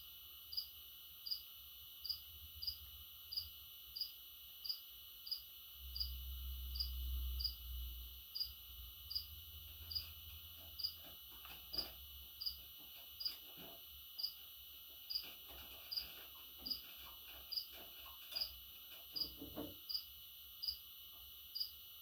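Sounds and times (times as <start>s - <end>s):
cricket chirping: 0.0s - 11.1s, 11.7s - 13.4s, 14.2s - 15.3s, 17.4s - 22.0s.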